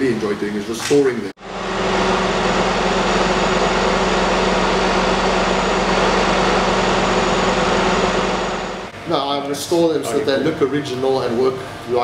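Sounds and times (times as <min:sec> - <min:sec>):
vacuum cleaner motor running: 0:01.4 - 0:12.0.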